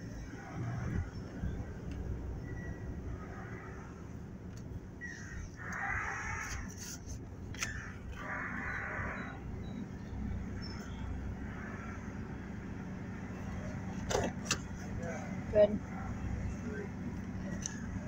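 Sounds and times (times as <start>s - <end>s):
ferry engine rumble: 0.0s - 18.0s.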